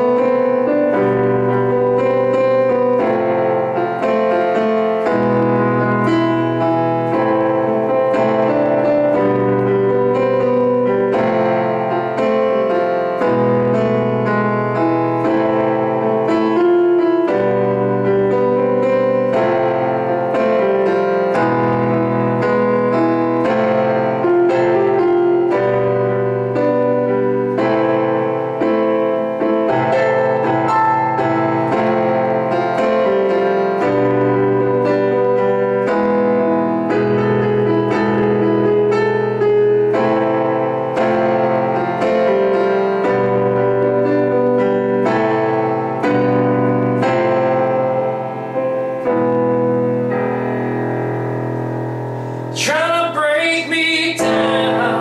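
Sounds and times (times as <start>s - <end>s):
piano chords: 0.0s - 55.0s.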